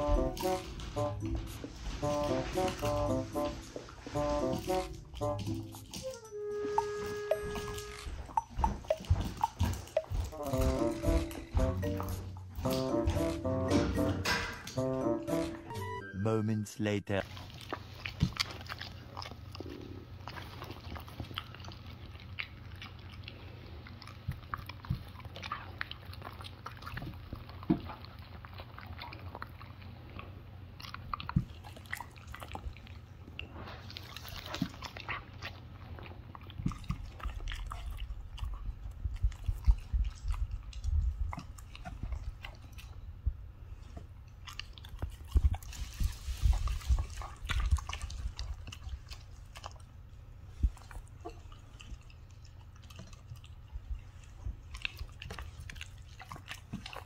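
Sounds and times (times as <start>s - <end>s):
dogs chewing and crunching: 0.0s - 15.8s, 17.2s - 57.0s
low steady hum: 0.0s - 57.0s.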